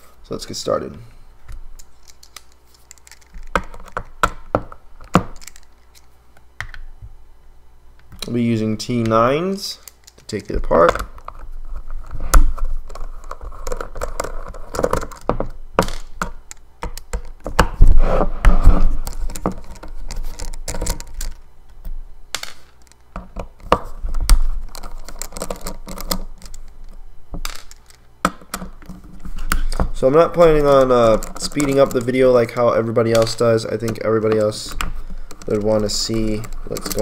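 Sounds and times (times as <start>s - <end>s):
hard drive being handled: 1.4s - 6.8s, 9.9s - 18.0s, 18.6s - 21.4s, 22.7s - 37.0s.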